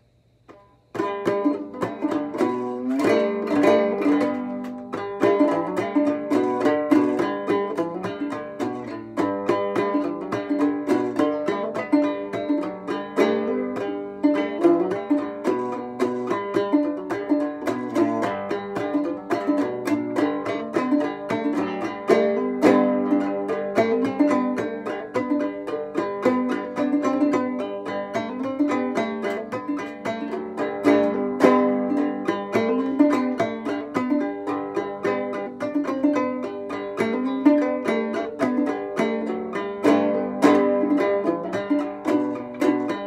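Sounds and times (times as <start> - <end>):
banjo plucked tune: 0.0 - 43.0.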